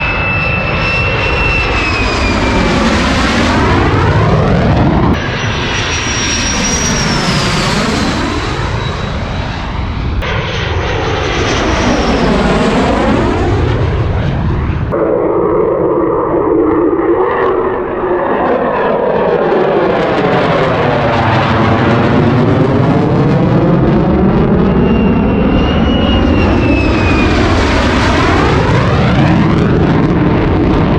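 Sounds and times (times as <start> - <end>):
fighter jet flying past: 0.0 - 30.9
jet whine falling in pitch: 0.0 - 30.9.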